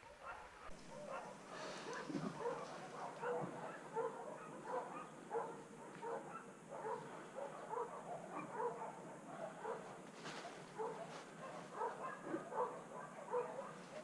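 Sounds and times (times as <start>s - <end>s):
distant dog barking: 0.0s - 14.0s.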